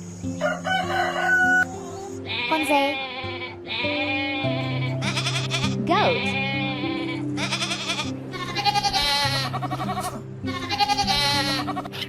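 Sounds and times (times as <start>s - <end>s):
goat bleating: 2.3s - 12.0s.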